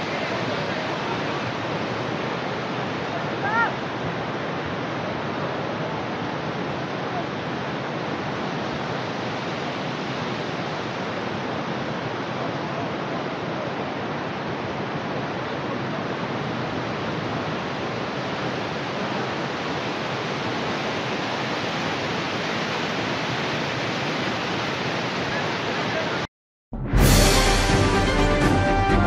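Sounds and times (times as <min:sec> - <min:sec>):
river rushing over boulders: 0:00.0 - 0:26.3.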